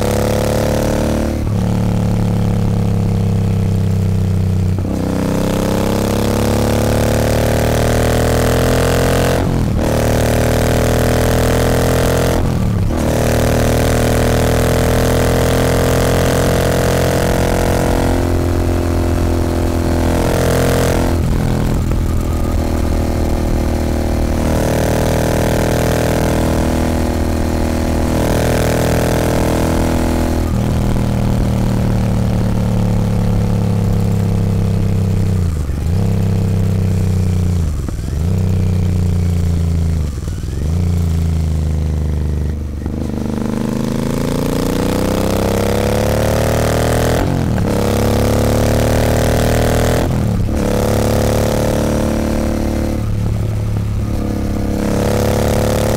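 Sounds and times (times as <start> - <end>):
motorcycle engine while riding: 0.0 - 55.9.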